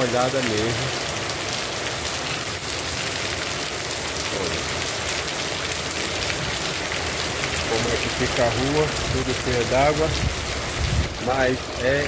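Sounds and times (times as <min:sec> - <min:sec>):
heavy rain on cobblestones: 0:00.0 - 0:12.0.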